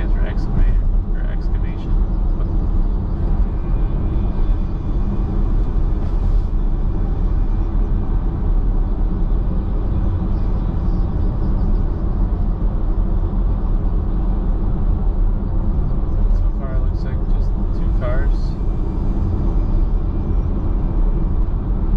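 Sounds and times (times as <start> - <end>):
road and engine rumble in car: 0.0 - 21.9.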